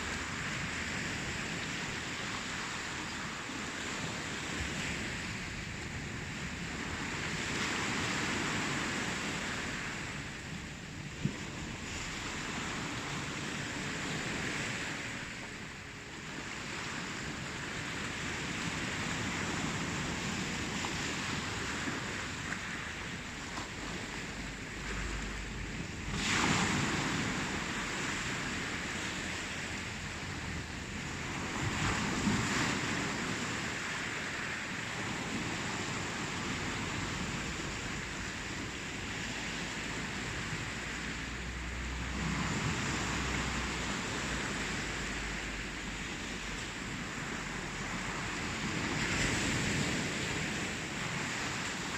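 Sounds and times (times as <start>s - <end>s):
ocean waves washing in: 0.0s - 51.9s.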